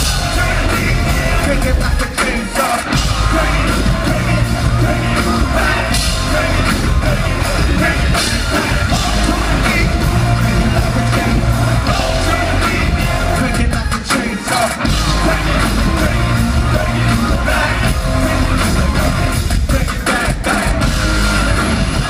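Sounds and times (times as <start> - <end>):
live rock band playing: 0.0 - 22.0
person singing and yelling: 0.0 - 22.0.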